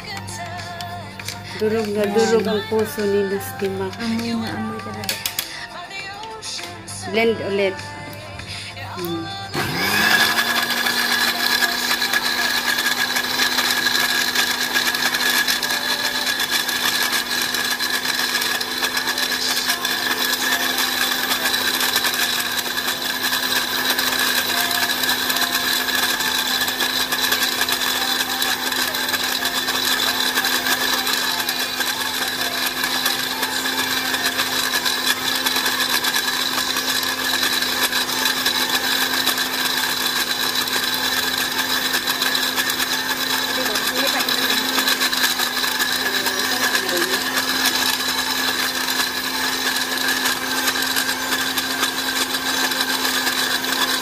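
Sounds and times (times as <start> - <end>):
blender motor running: 0.0 - 54.0.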